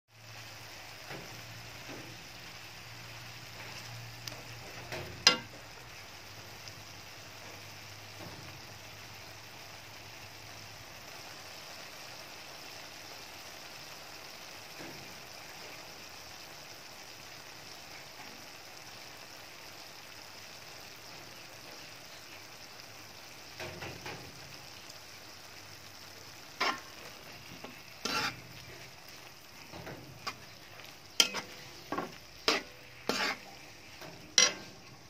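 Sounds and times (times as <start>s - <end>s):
food sizzling in a pan: 0.1s - 35.0s.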